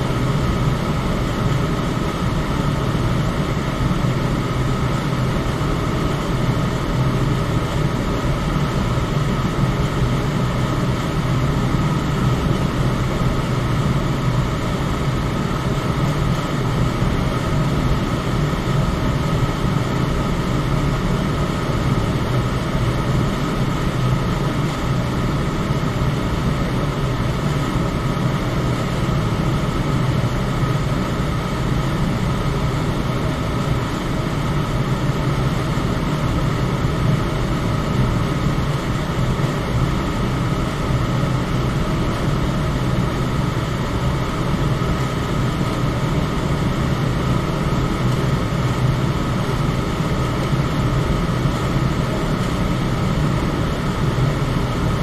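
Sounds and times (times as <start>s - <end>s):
electric fan whooshing hum: 0.0s - 55.0s.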